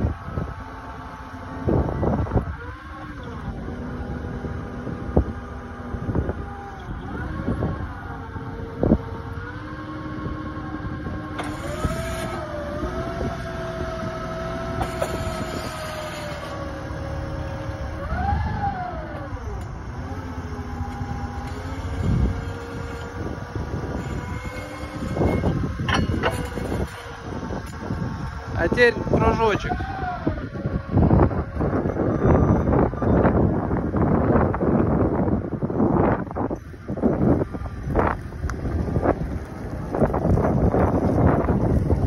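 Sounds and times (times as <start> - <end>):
forklift engine running: 0.0 - 42.0
hydraulics working: 0.0 - 42.0.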